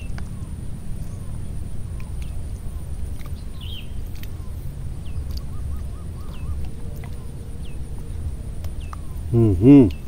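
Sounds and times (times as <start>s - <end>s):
low rumble: 0.0s - 10.0s
small birds calling: 0.0s - 10.0s.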